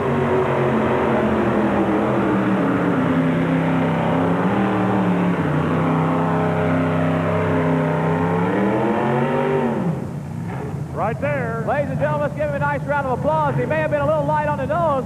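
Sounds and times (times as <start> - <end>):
tractor engine under heavy load: 0.0 - 15.0.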